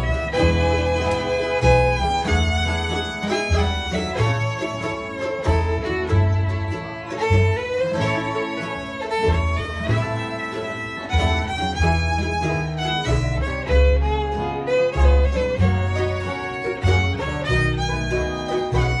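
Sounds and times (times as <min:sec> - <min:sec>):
bass line: 0:00.0 - 0:19.0
fiddle playing: 0:00.0 - 0:19.0
guitar: 0:00.0 - 0:19.0.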